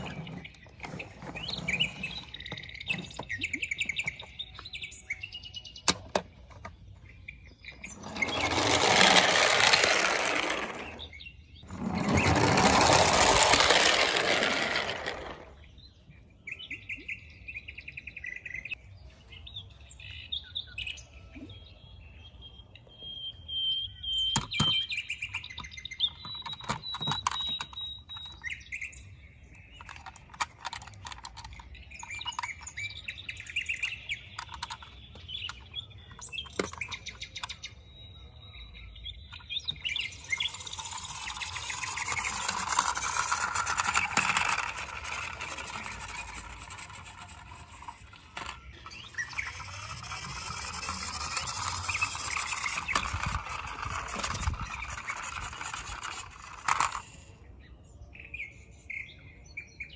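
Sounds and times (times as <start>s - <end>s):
birds chirping: 0.0s - 13.6s, 14.5s - 59.9s.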